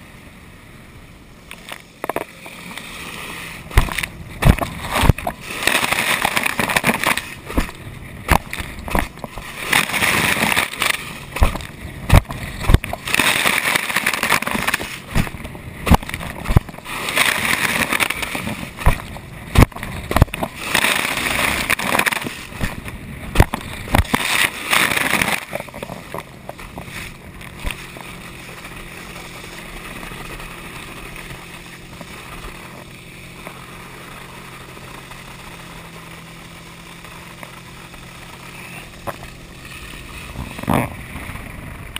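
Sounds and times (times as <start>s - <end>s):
boat engine hum: 0.0s - 41.9s.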